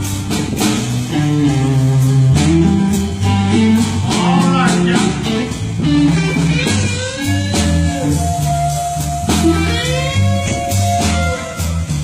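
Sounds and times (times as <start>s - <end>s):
blues lead guitar: 0.0s - 12.0s
low bass line: 0.0s - 12.0s.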